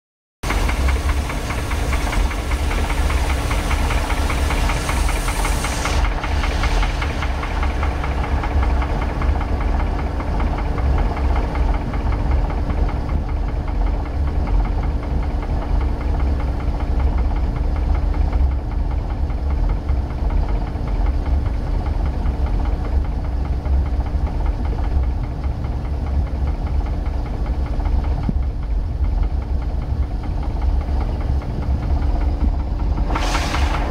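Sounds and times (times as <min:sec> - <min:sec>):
boat engine knocking: 0:00.5 - 0:33.9.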